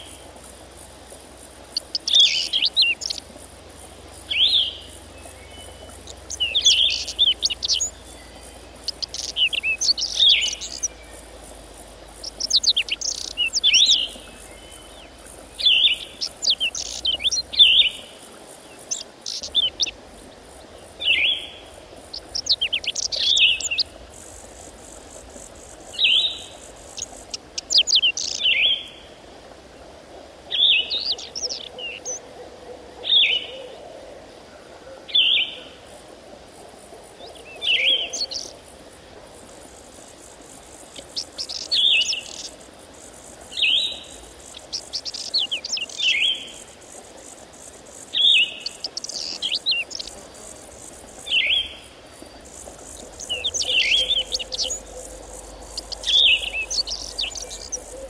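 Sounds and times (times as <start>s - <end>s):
songbird singing: 0.0s - 29.2s, 30.5s - 32.2s, 36.8s - 58.0s.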